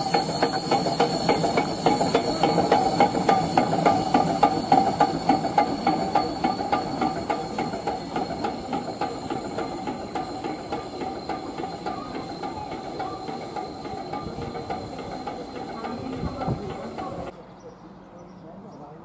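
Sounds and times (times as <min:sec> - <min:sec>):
steam train passing: 0:00.0 - 0:17.5.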